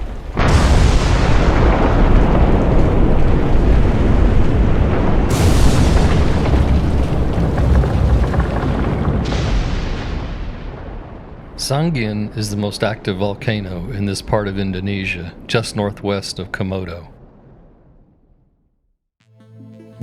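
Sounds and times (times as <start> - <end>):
volcano eruption rumble: 0.0 - 18.3.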